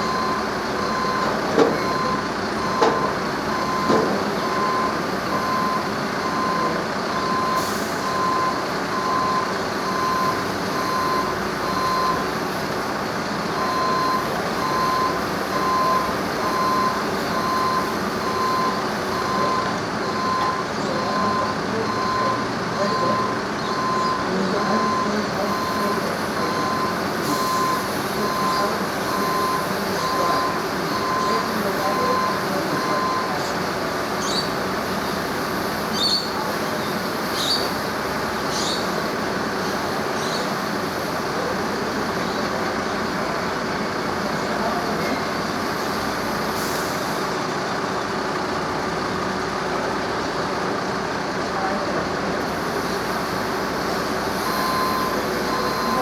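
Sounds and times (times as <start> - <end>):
vehicle reversing alarm beeping: 0.0 - 48.0, 48.8 - 56.0
engine running: 0.0 - 56.0.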